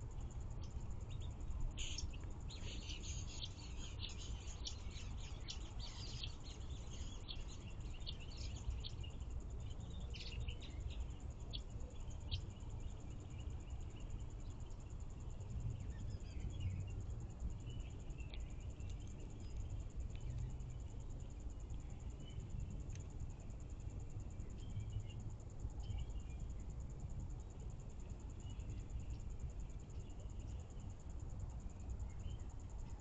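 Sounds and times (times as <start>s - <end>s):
low background rumble: 0.0s - 33.0s
small songbirds chirping: 0.0s - 33.0s.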